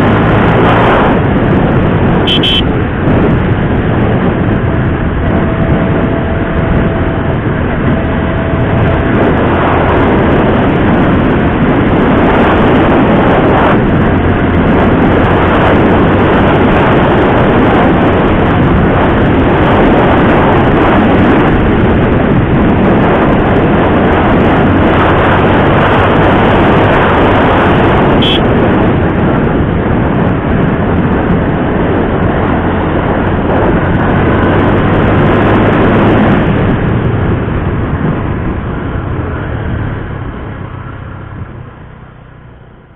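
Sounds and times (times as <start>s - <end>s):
dense rushing noise: 0.0s - 42.9s
motorcycle engine running: 0.0s - 42.9s.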